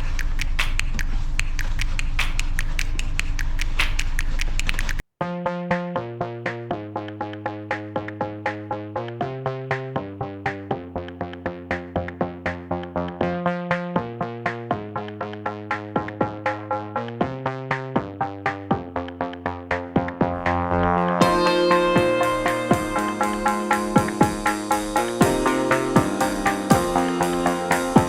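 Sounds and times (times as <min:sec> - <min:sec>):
electronic music: 0:05.2 - 0:28.0.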